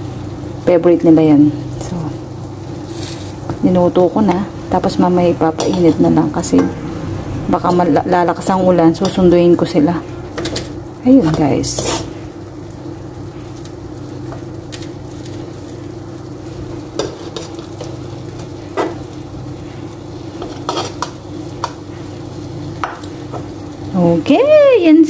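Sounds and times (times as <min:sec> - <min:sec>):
meat sizzling in a pan: 0:00.0 - 0:25.0
steady hum: 0:00.0 - 0:25.0.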